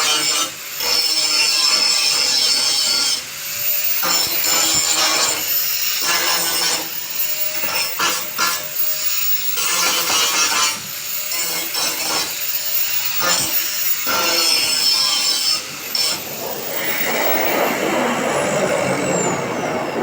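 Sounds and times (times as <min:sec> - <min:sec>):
tool cutting metal: 0:00.0 - 0:20.0.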